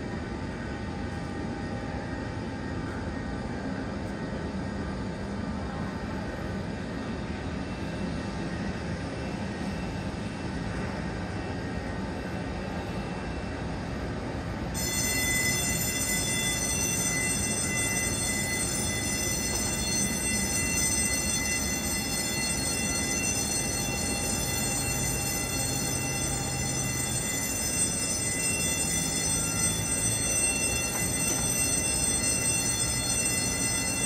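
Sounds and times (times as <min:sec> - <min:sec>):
high multi-tone whine: 0:00.0 - 0:34.0.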